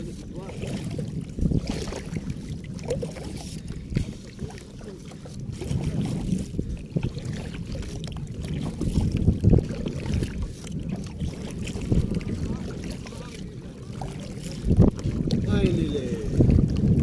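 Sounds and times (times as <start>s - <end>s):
kayak paddling on water: 0.0s - 17.0s
wind rumbling on microphone: 0.0s - 17.0s.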